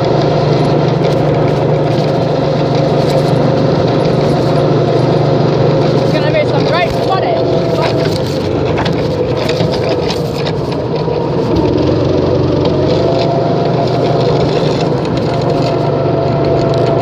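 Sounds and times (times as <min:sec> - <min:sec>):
loud mechanical hum: 0:00.0 - 0:17.0.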